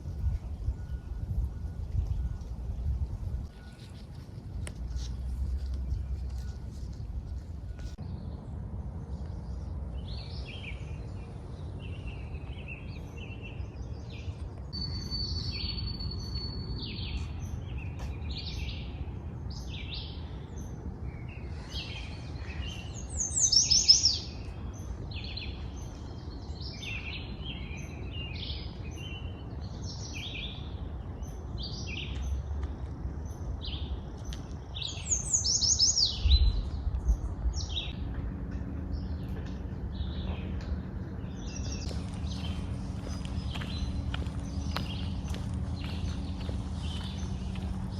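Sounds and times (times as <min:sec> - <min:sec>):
low steady rumble: 0:00.0 - 0:35.3, 0:36.0 - 0:47.9
songbirds chirping: 0:00.0 - 0:47.9.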